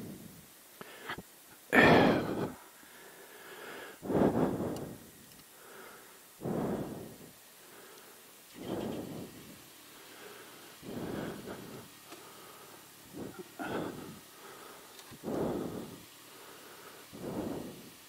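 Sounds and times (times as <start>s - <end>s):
person breathing: 0.0s - 18.0s.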